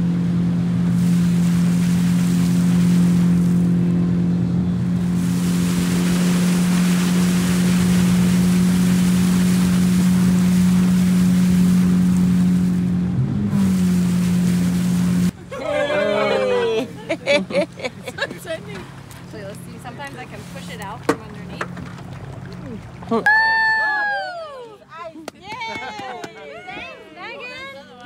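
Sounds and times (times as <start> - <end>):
rushing water: 0.0 - 23.6
outboard motor running: 0.0 - 24.3
wind: 0.0 - 28.0.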